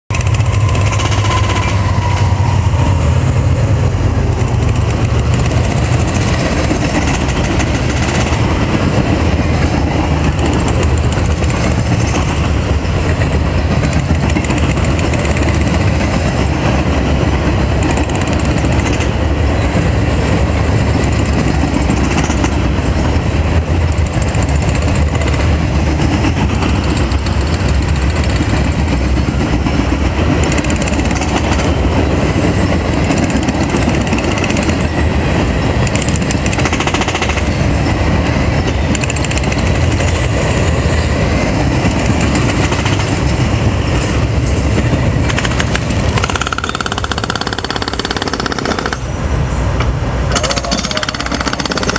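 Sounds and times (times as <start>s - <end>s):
steel train wheels clattering on rails: 0.1s - 51.9s.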